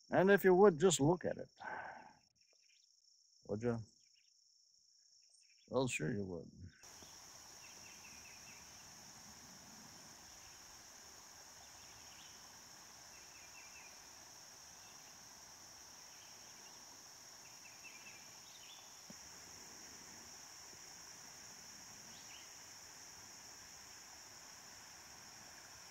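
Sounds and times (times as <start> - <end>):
insect chorus buzzing: 0.0 - 25.9.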